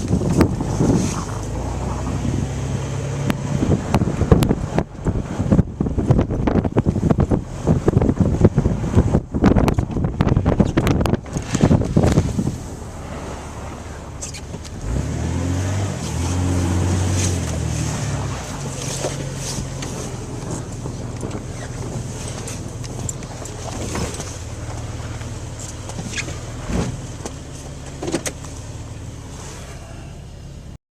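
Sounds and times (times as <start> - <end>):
vehicle engine revving: 0.0 - 30.8.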